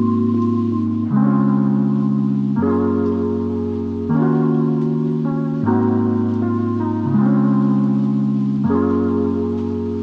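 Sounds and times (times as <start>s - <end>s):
soft keyboard chords: 0.0s - 10.0s.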